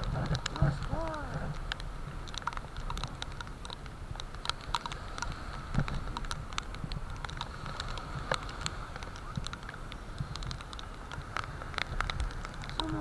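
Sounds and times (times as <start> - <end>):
breaking surf rumble: 0.0 - 13.0
raindrops ticking on camera: 0.0 - 13.0.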